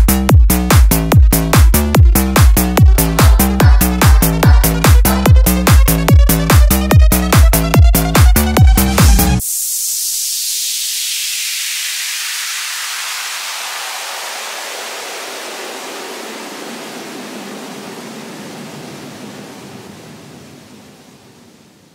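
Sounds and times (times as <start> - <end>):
filtered white noise sweep: 0.0 - 21.9.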